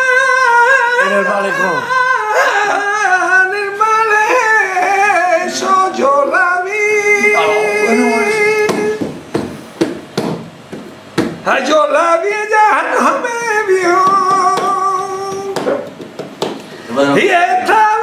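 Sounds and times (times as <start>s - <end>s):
man singing flamenco: 0.0s - 9.2s, 11.4s - 16.1s, 16.7s - 18.0s.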